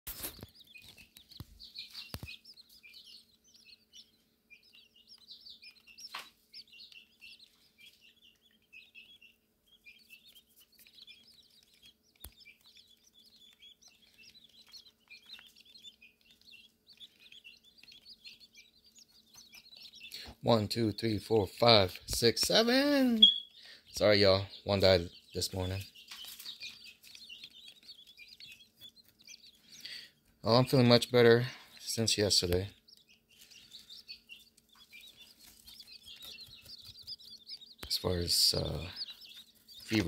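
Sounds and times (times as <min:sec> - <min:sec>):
quail chicks peeping: 0:00.1 - 0:40.0.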